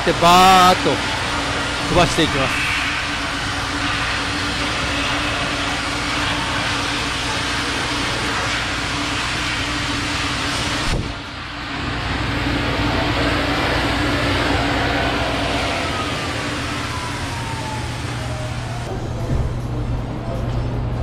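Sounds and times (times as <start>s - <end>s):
air blower rushing through hose: 0.0s - 19.0s.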